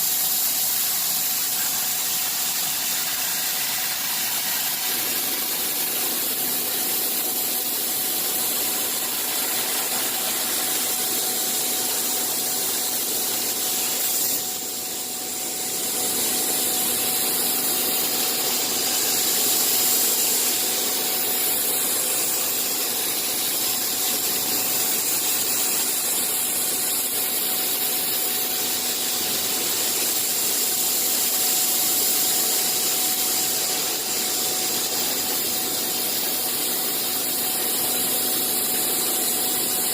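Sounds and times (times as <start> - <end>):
machine hissing with whine: 0.0 - 39.9.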